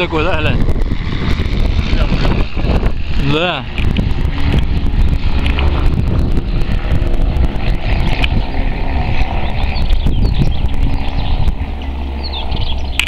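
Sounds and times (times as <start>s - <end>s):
plane engines droning overhead: 0.0s - 13.0s
wind buffeting microphone: 0.0s - 13.0s.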